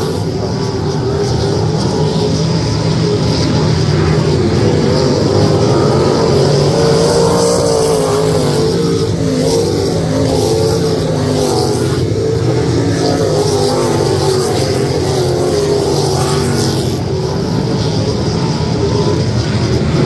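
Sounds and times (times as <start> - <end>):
race car engines running hard: 0.0 - 20.0.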